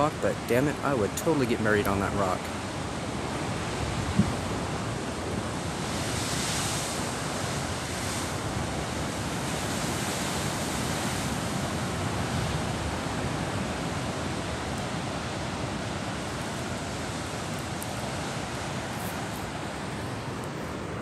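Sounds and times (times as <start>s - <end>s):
surf breaking on rocks: 0.0s - 21.0s
wind on microphone: 2.4s - 21.0s.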